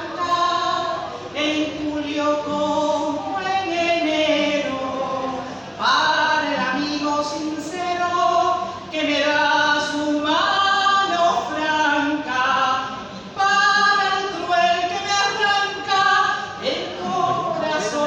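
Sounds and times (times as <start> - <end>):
woman singing unaccompanied: 0.0 - 18.0.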